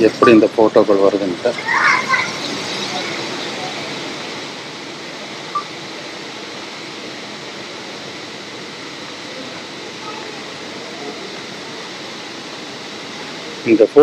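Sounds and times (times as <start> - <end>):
indoor hall background hiss: 0.0 - 14.0.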